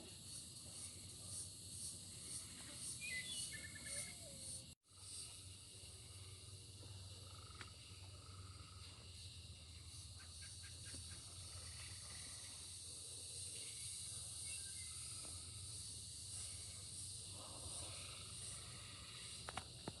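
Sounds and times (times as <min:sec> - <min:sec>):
high-pitched outdoor hiss: 0:00.0 - 0:20.0.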